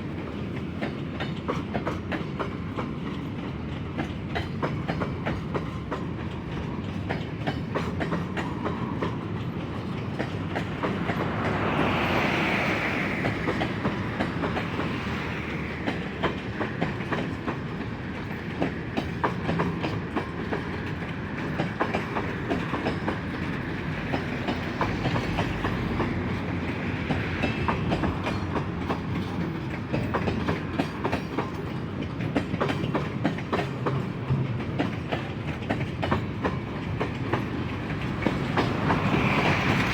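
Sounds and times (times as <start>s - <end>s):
train wheels clacking on rail joints: 0.0s - 39.9s.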